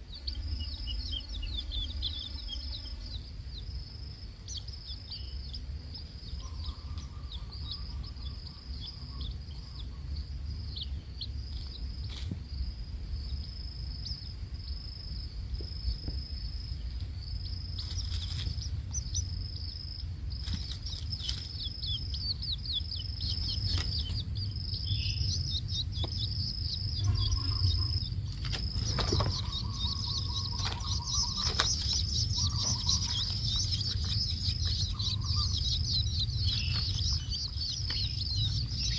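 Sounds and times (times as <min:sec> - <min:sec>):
bird chicks chirping: 0:00.0 - 0:38.9.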